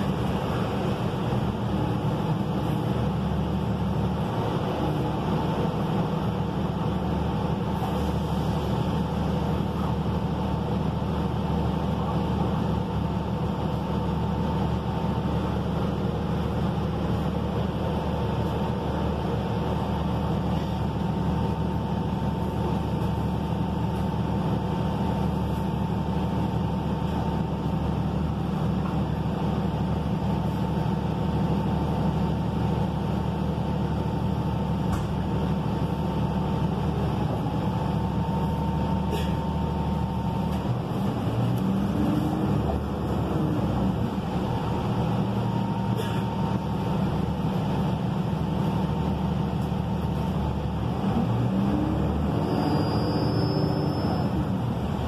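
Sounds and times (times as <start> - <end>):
bus diesel engine idling: 0.0 - 55.0
thin steady whine: 0.0 - 55.0.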